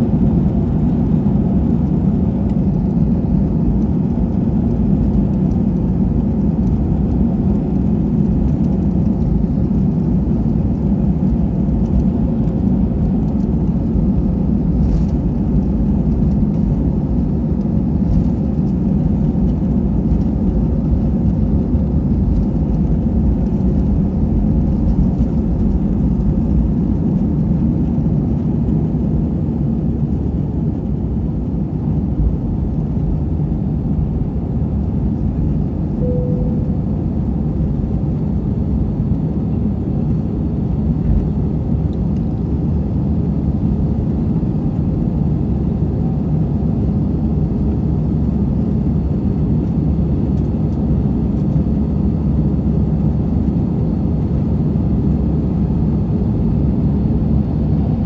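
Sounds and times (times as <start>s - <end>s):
jet engines at takeoff power: 0.0s - 58.0s
wheels rumbling on runway: 0.0s - 58.0s.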